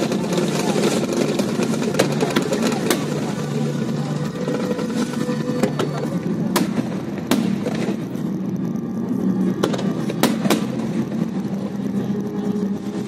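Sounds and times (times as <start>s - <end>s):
fireworks barrage: 0.0s - 13.0s.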